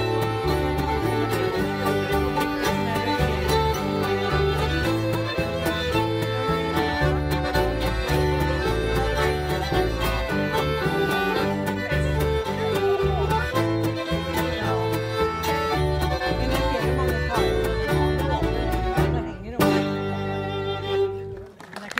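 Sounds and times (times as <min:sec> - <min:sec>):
guitar: 0:00.0 - 0:21.7
fiddle: 0:00.0 - 0:21.8.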